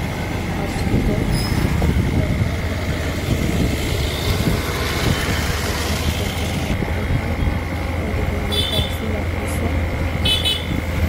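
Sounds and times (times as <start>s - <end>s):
road and wind noise: 0.0s - 11.0s
vehicle engine hum: 0.0s - 11.0s.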